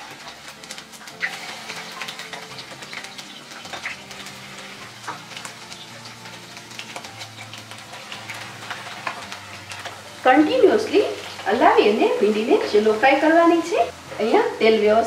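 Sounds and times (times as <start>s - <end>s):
okra sizzling in hot oil: 0.0s - 15.0s.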